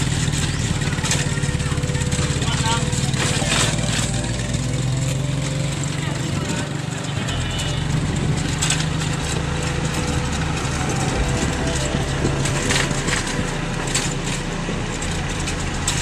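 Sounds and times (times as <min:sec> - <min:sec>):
road and wind noise: 0:00.0 - 0:16.0
small motorcycle engine running: 0:00.0 - 0:16.0.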